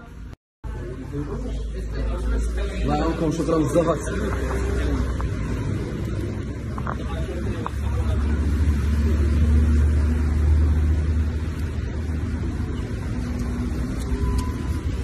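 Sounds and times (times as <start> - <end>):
car engine rumble: 0.1 - 15.0.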